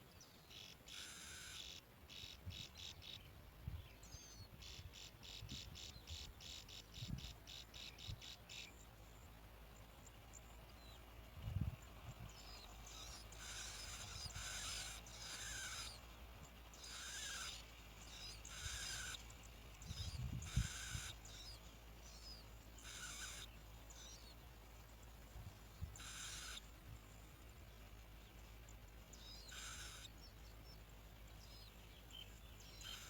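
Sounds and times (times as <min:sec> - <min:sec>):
nestlings making buzzy begging calls: 0:00.4 - 0:03.2, 0:04.1 - 0:09.5, 0:12.1 - 0:33.0.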